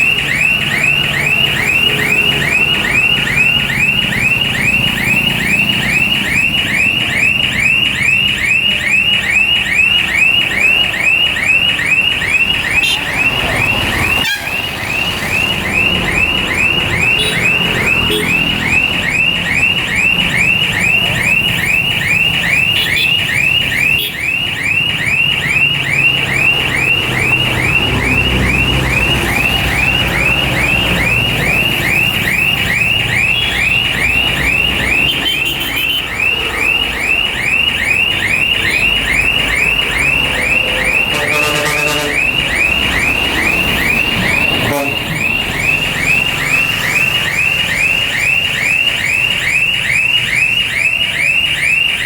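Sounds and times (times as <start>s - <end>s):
electronic alarm chirping: 0.0s - 52.0s.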